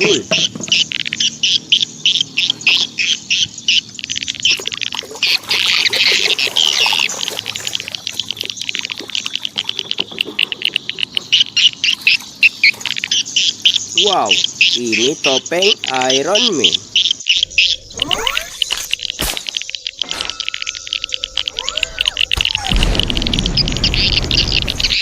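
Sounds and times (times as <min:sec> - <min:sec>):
birds and insects chirping: 0:00.0 - 0:25.0.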